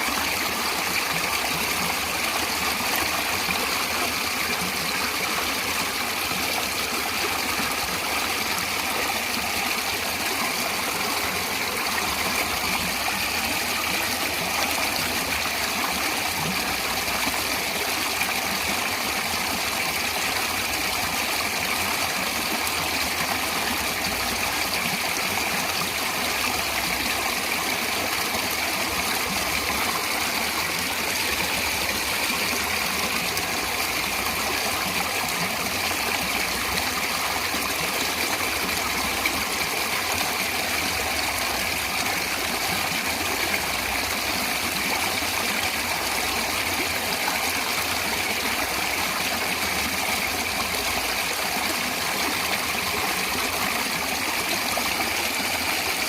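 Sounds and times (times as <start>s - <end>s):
running water flowing: 0.0s - 56.0s.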